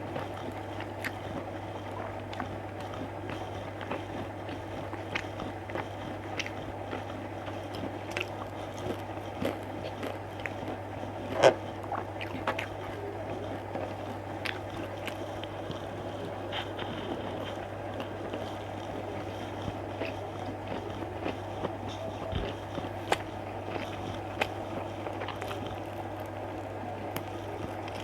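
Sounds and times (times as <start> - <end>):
person chewing food: 0.0 - 28.0
steady low hum: 0.0 - 28.0.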